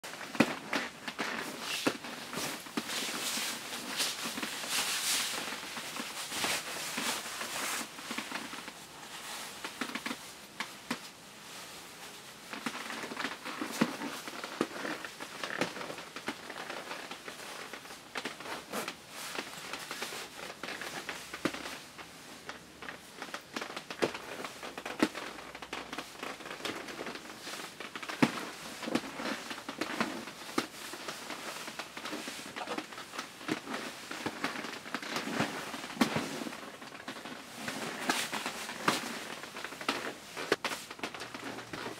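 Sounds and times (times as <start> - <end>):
nylon clothing rustling: 0.0 - 41.9.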